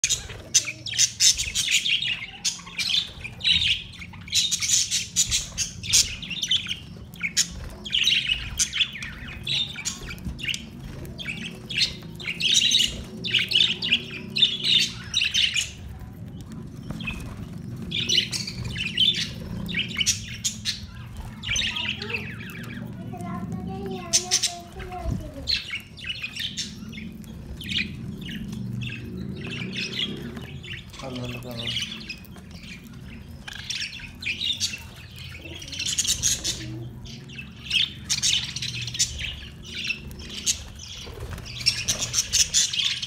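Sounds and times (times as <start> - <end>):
budgerigars chirping: 0.0 - 23.1, 24.1 - 43.0
steady low hum: 0.0 - 43.0.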